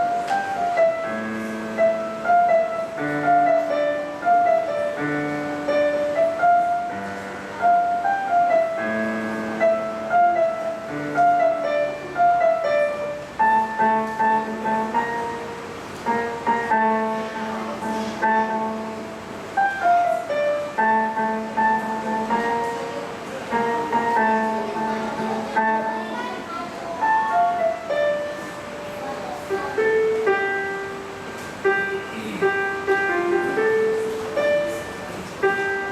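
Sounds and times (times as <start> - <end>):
solo piano melody: 0.0 - 35.9.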